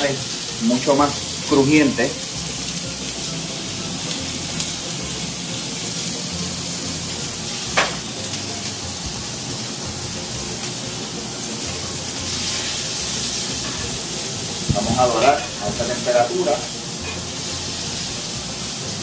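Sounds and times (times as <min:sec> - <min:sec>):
food sizzling in a skillet: 0:00.0 - 0:19.0.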